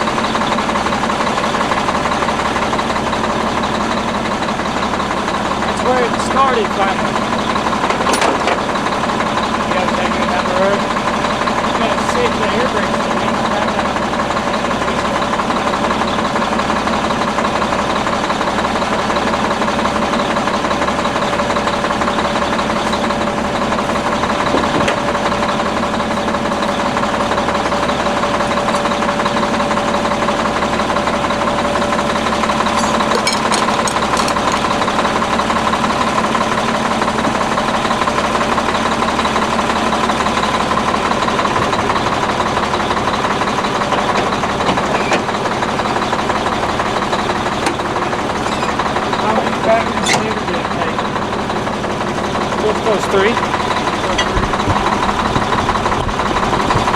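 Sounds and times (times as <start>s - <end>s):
diesel truck engine idling: 0.0s - 56.9s.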